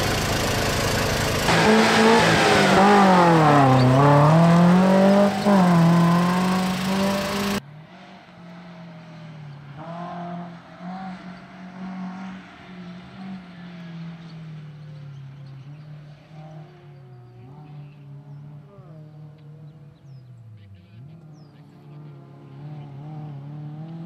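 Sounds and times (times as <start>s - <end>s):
car engine revving: 0.0s - 20.2s, 20.8s - 24.0s
distant car engine: 0.0s - 24.0s.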